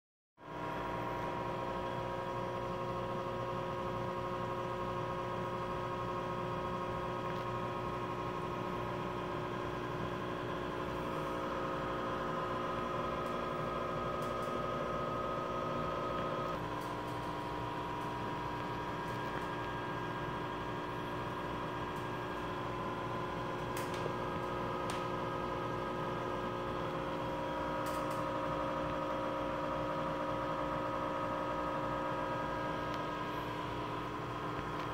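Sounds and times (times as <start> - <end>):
aquarium air pump humming: 0.4 - 34.9.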